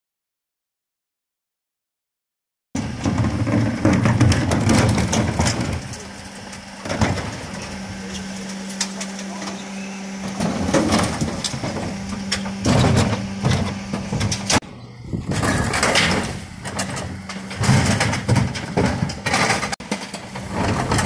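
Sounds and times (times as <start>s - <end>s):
hydraulic hum: 2.8s - 21.0s
truck bin lifter rumble and clatter: 2.8s - 21.0s
wheelie bin knocking: 2.8s - 21.0s.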